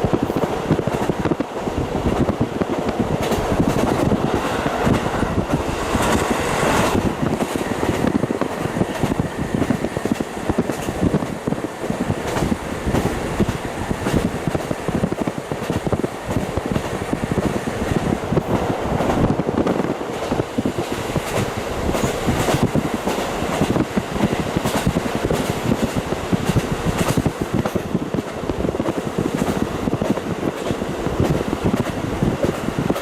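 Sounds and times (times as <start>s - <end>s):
train wheels on rails: 0.0s - 33.0s
wind noise: 0.0s - 33.0s.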